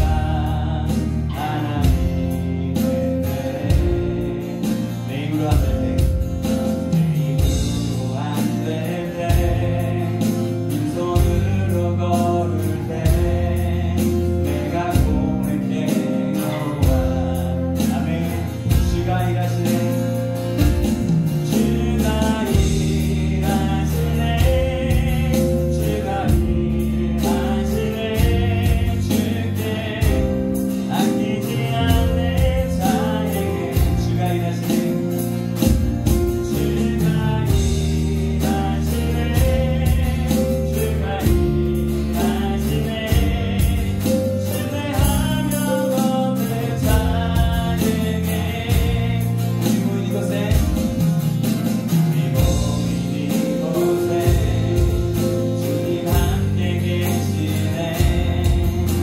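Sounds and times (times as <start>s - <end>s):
acoustic guitar: 0.0s - 59.0s
bass guitar: 0.0s - 59.0s
keyboard: 0.0s - 59.0s
voices singing: 0.0s - 59.0s.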